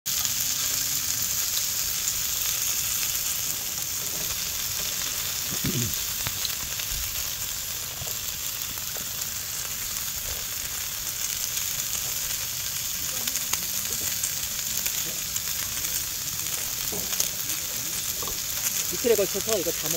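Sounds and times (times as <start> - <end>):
crackles and pops: 0.1 - 19.9
meat sizzling on a griddle: 0.1 - 19.9.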